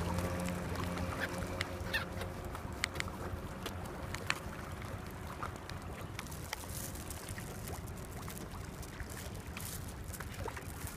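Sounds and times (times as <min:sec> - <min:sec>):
moving water: 0:00.0 - 0:10.9
wind: 0:00.0 - 0:10.9.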